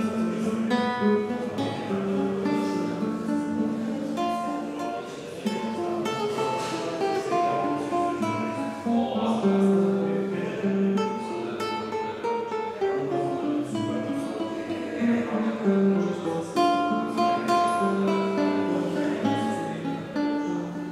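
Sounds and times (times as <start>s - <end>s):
fingerpicked nylon-string guitar: 0.0s - 20.9s.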